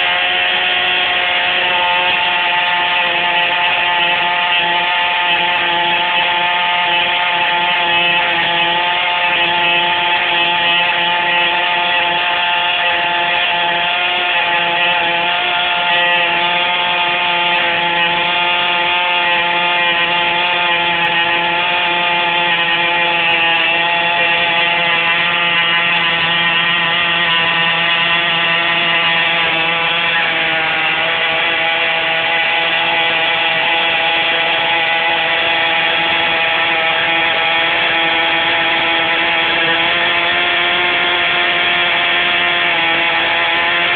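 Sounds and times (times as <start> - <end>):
high-pitched engine buzz: 0.0 - 43.9.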